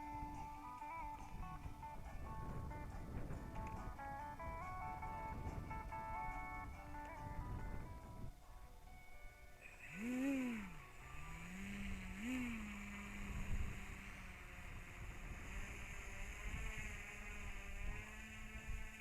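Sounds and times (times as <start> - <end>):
wind rumble on microphone: 0.0 - 8.8, 9.8 - 19.0
electric model airplane motor whining: 0.0 - 19.0.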